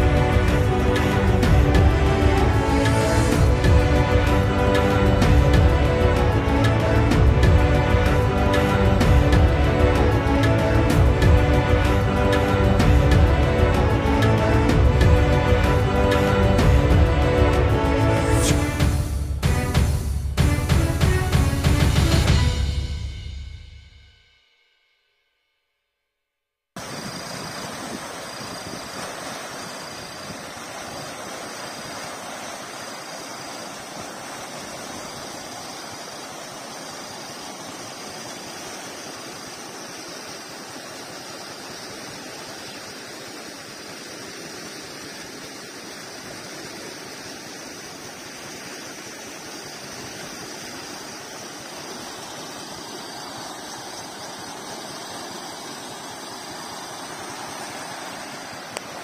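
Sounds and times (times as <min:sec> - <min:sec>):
floodwater rushing and churning: 0:00.0 - 0:22.8, 0:26.8 - 0:59.0.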